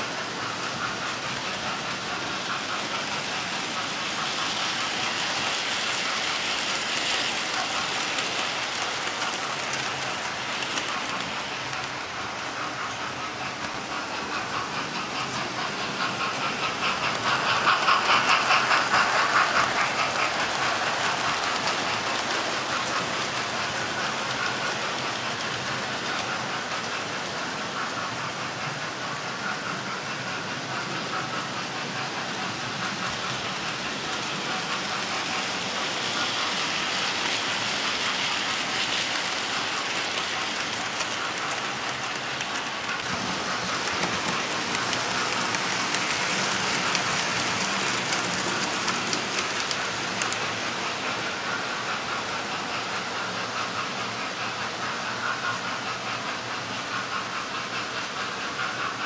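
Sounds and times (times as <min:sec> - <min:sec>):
model train wheels rattling: 0:00.0 - 0:59.0.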